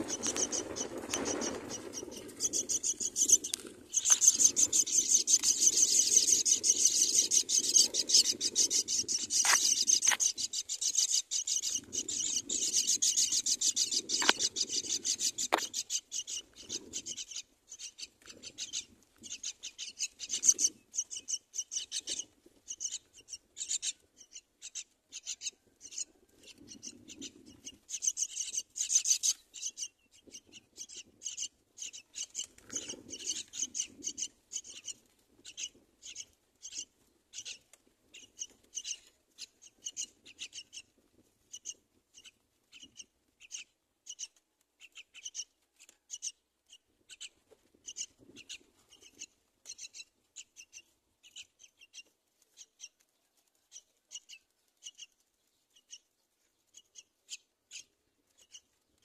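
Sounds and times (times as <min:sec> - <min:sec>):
nestlings begging calls: 0:00.0 - 0:40.9, 0:41.5 - 0:45.5, 0:46.1 - 0:52.0, 0:53.7 - 0:56.1, 0:56.7 - 0:58.7.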